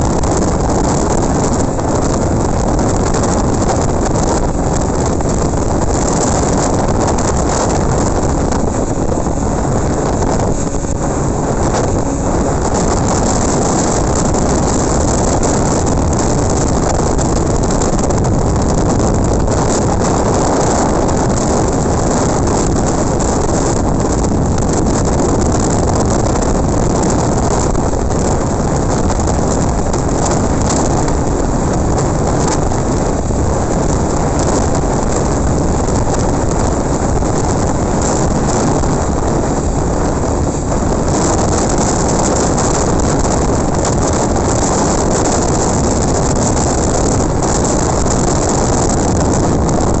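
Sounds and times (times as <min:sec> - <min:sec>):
motorcycle road noise: 0:00.0 - 0:50.0
wind rush over microphone: 0:00.0 - 0:50.0.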